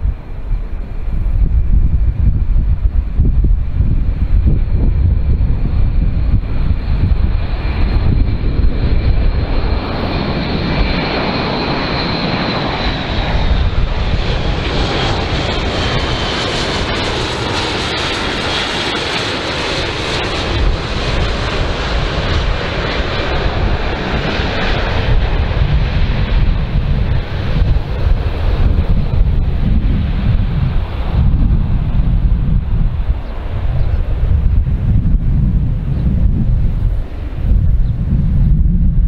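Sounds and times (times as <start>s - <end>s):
aircraft turboprop engines roaring: 0.0s - 39.0s
wind rumble on microphone: 0.0s - 39.0s.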